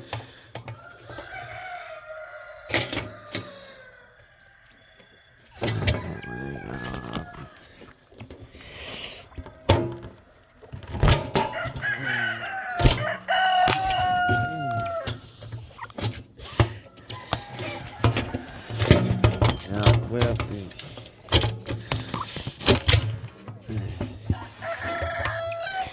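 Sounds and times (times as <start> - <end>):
chickens clucking: 0.0 - 25.9
roosters crowing: 0.2 - 20.8, 23.6 - 25.9.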